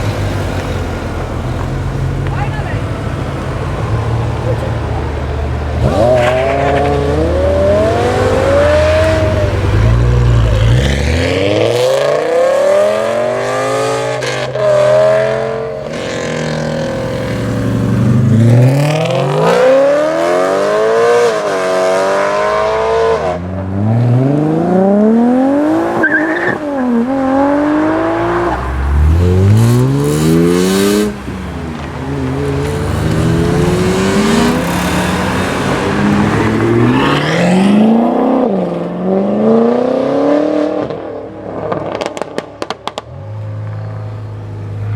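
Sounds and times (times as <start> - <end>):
cars accelerating hard: 0.0 - 44.9.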